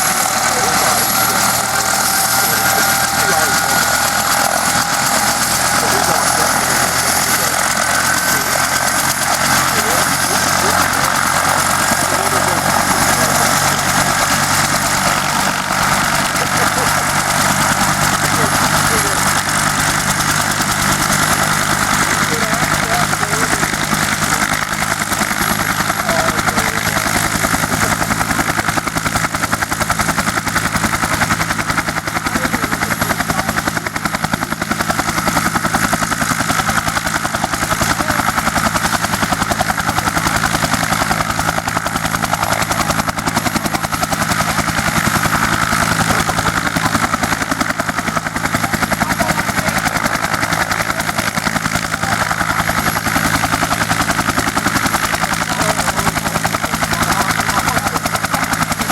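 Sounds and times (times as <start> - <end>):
helicopter rotor chopping: 0.0 - 58.9
helicopter turbine engine: 0.0 - 58.9.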